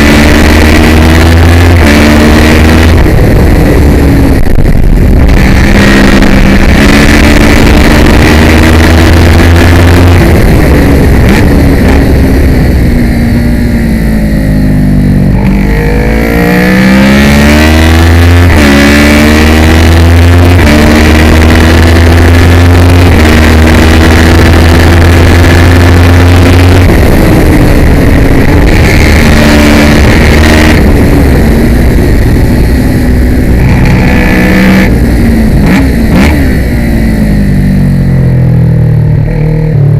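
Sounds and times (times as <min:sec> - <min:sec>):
wind rush: 0:00.0 - 0:37.2
motorcycle engine at high revs: 0:00.0 - 0:39.9.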